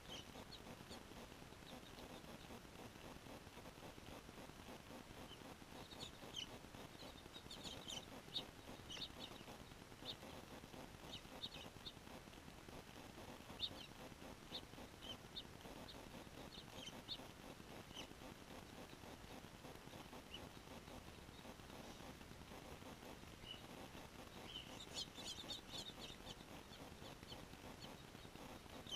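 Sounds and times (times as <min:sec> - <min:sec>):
faint steady hiss: 0:00.0 - 0:28.9
small birds chirping: 0:00.0 - 0:28.9.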